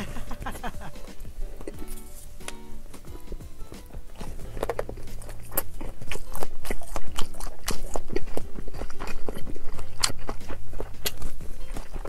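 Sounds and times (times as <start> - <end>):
close chewing with wet smacks: 1.4 - 12.0.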